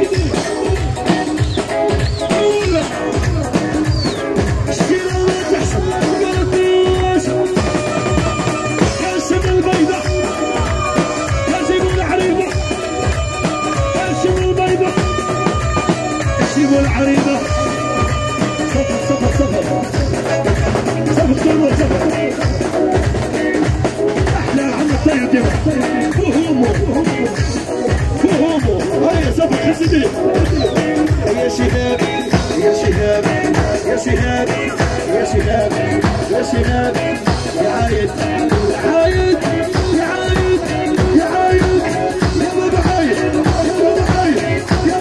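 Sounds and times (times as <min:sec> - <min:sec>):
live band music: 0:00.0 - 0:45.0
steady drum beat: 0:00.0 - 0:45.0.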